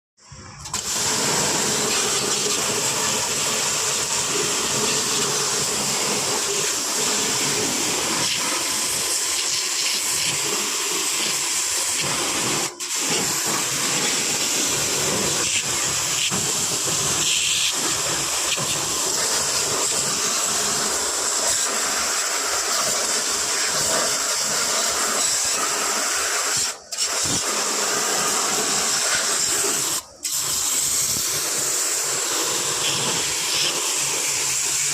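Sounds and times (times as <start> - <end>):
high-pressure water jet spraying: 0.6 - 34.9.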